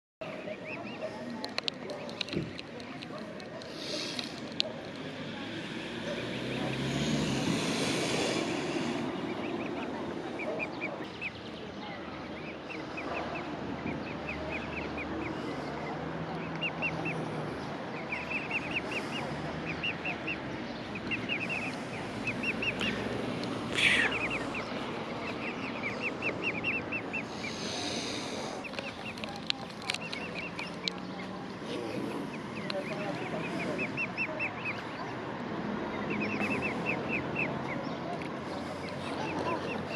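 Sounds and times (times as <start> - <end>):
cygnets peeping: 0.2 - 39.9.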